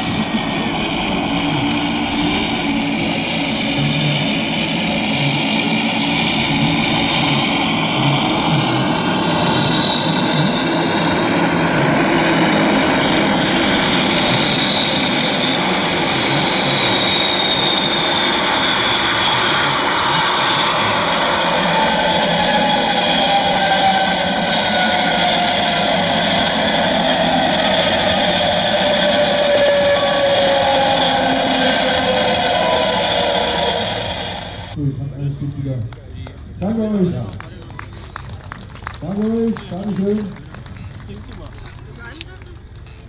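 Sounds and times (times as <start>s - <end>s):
high engine whine: 0.0s - 43.0s
propeller drone: 0.0s - 43.0s.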